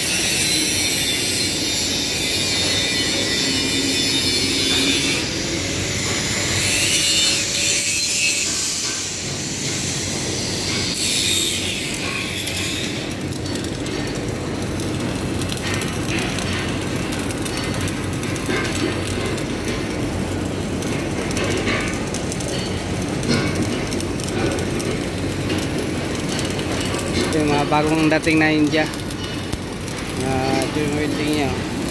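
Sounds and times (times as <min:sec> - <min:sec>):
welding arc crackling: 0:00.0 - 0:31.9.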